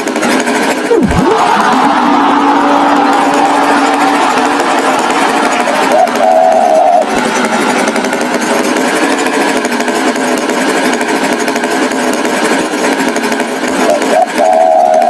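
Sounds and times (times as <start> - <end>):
rattling engine: 0.0 - 15.0.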